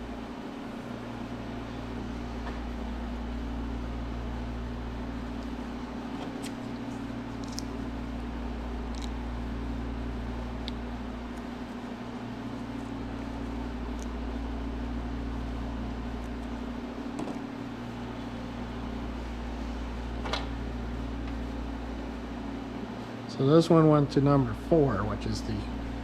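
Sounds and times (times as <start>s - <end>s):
fan-like machine humming: 0.0s - 26.0s.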